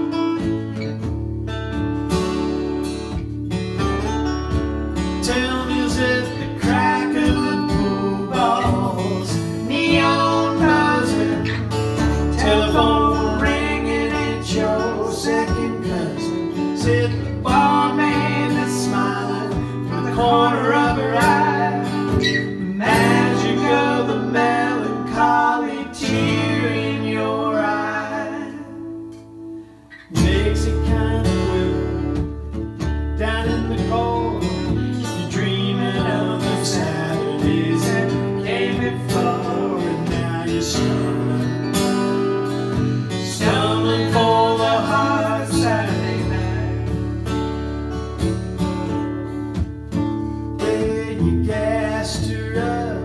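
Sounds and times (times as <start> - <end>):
acoustic guitar strumming: 0.0 - 53.0
low bass notes: 0.0 - 53.0.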